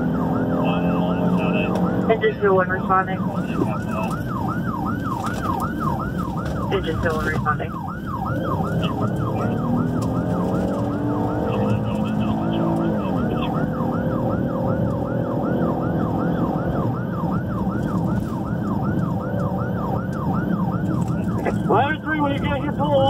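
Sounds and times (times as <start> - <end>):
electronic siren yelping: 0.0 - 23.0
vehicle engine and road noise: 0.0 - 23.0.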